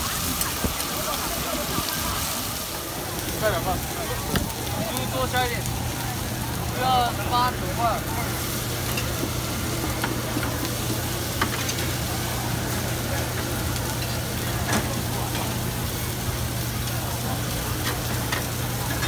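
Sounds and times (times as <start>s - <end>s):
meat sizzling on griddle: 0.0s - 19.0s.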